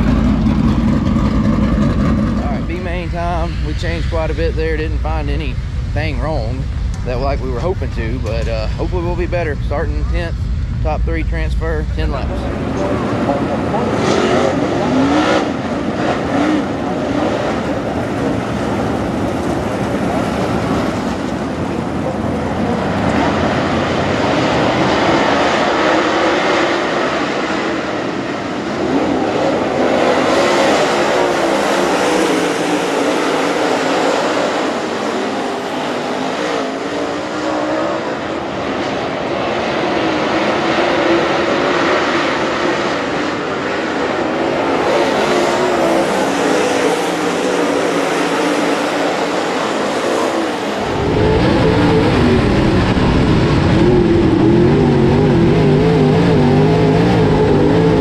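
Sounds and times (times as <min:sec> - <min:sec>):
engine noise inside car: 0:00.0 - 0:58.0
race car engines passing: 0:00.0 - 0:58.0.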